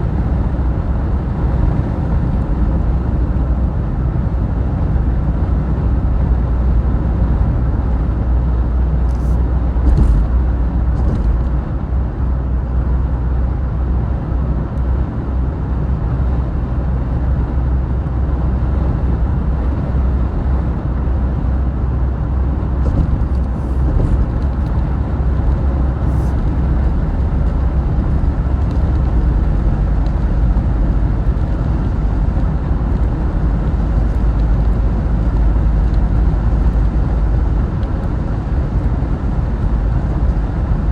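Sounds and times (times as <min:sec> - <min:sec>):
vehicle driving at highway speed: 0:00.0 - 0:40.9.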